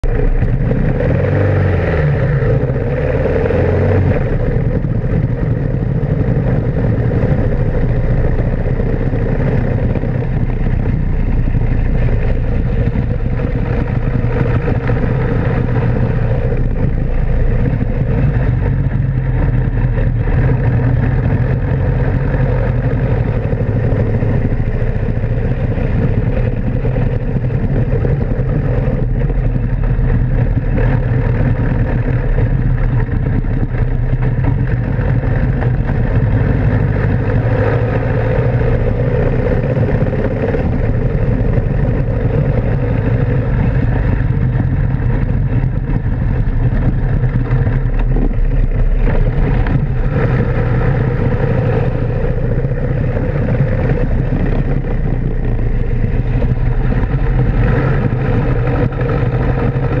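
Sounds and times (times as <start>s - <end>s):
car engine running hard: 0.0s - 60.0s
road rumble: 0.0s - 60.0s
wind noise: 0.0s - 60.0s.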